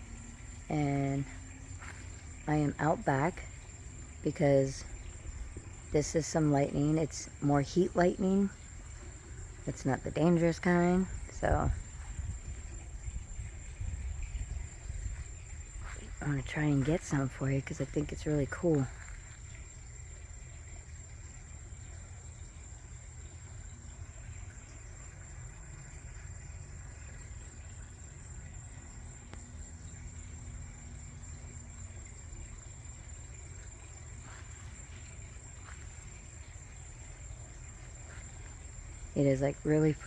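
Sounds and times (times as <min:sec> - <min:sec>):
crickets trilling: 0:00.0 - 0:40.0.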